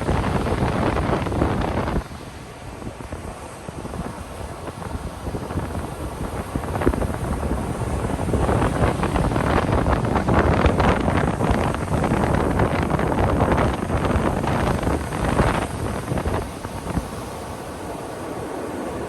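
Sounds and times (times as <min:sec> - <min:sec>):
ocean waves breaking: 0:00.0 - 0:19.0
wind rumbling on microphone: 0:00.0 - 0:19.0.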